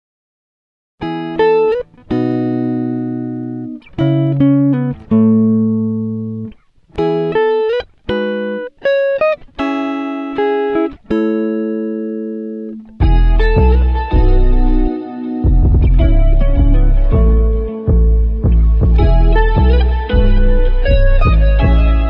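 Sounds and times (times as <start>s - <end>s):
plucked guitar music: 1.0s - 22.0s.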